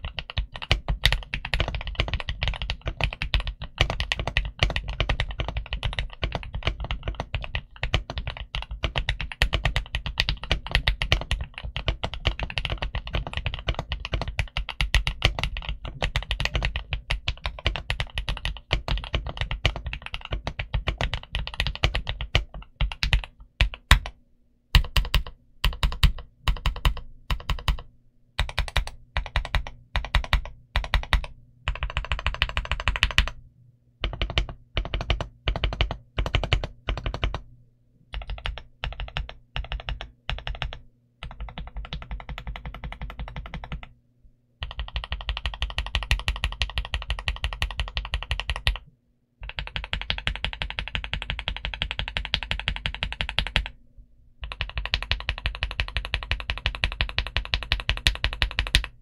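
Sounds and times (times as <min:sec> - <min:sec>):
mechanical keyboard typing: 0:00.0 - 0:33.4, 0:34.0 - 0:37.5, 0:38.1 - 0:43.9, 0:44.6 - 0:53.8, 0:54.4 - 0:59.0.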